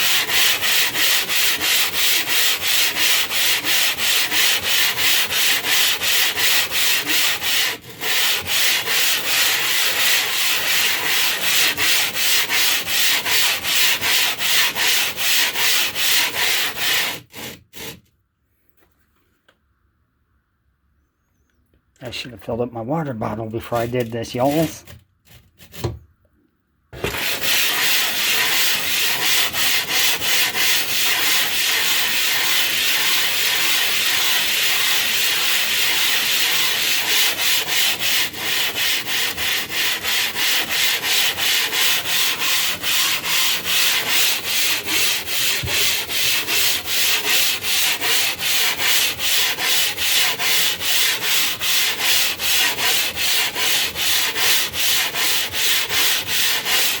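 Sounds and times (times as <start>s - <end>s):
stone scraping on abrasive surface: 0.0s - 18.0s, 27.0s - 57.0s.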